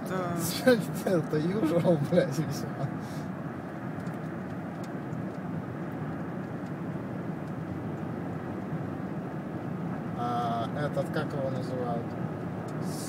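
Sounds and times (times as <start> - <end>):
car engine hum: 0.0 - 13.0
tyres on snowy road: 0.0 - 13.0.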